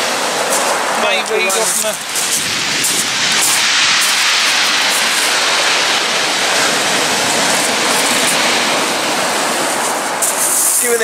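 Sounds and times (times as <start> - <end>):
surf washing over shingle: 0.0 - 11.0.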